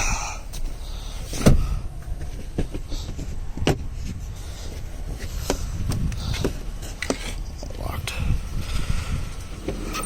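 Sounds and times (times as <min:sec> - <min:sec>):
wind rumble on microphone: 0:01.3 - 0:10.0.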